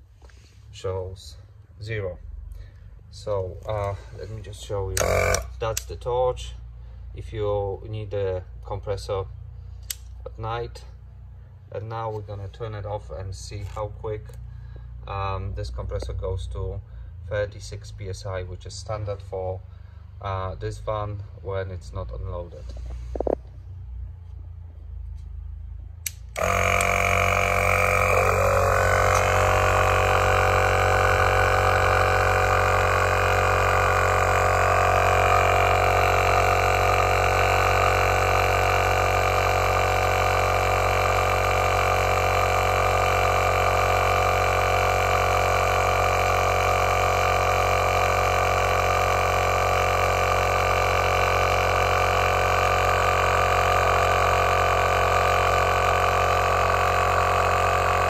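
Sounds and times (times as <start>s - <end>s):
air compressor running: 0.0s - 1.6s, 2.5s - 8.7s, 9.3s - 11.8s, 13.6s - 16.0s, 22.5s - 58.0s.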